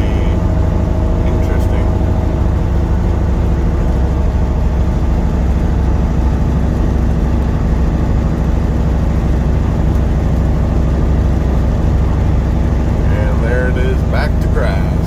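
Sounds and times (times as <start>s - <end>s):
road noise: 0.0s - 15.0s
truck diesel engine droning: 0.0s - 15.0s.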